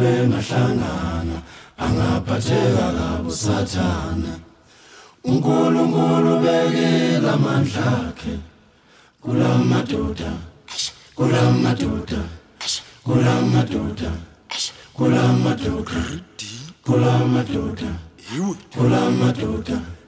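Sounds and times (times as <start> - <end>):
unaccompanied voices singing: 0.0 - 4.6, 5.2 - 8.6, 9.2 - 20.0.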